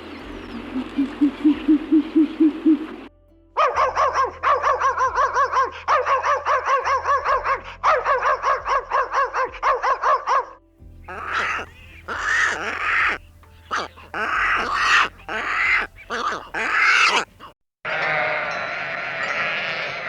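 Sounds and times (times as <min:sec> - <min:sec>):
animal calls: 0:00.0 - 0:20.0.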